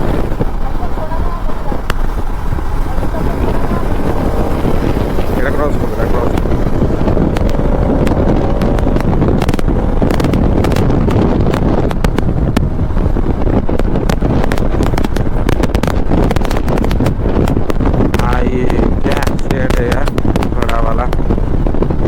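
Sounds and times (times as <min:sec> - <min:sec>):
motorcycle engine: 0:00.0 - 0:22.0
wind buffeting microphone: 0:00.0 - 0:22.0
wind crackles on microphone: 0:00.0 - 0:22.0.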